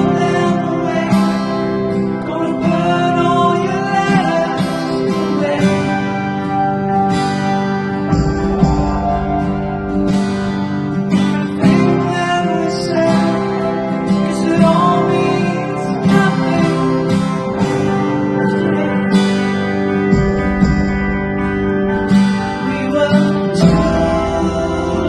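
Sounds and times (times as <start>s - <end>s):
person singing: 0.0s - 21.0s, 21.8s - 25.0s
acoustic guitar: 0.0s - 25.0s.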